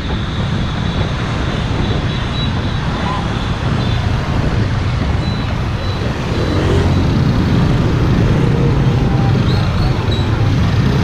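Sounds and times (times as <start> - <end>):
road vehicle rumble: 0.0 - 11.0.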